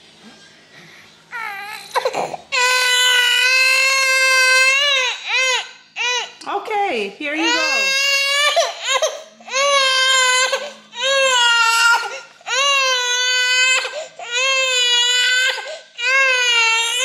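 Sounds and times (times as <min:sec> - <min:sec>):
baby crying: 0:01.3 - 0:06.4, 0:07.4 - 0:17.0.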